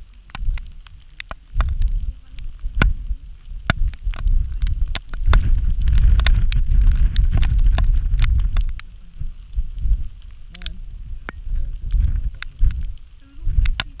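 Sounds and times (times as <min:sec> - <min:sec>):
sharp crackles: 0:00.0 - 0:14.0
wind buffeting microphone: 0:00.0 - 0:14.0.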